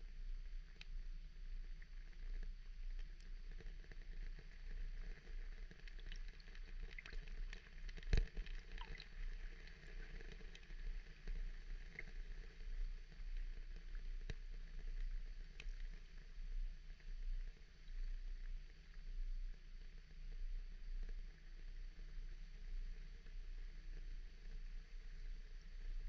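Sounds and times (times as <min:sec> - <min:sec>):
light ticks and crackles: 0:00.0 - 0:26.0
low water rumble: 0:00.0 - 0:26.0.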